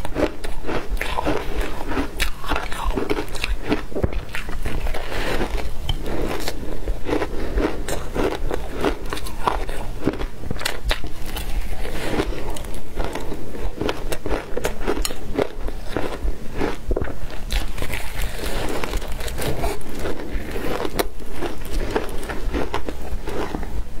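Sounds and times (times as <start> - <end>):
ice crunching while chewed: 0.0 - 23.8.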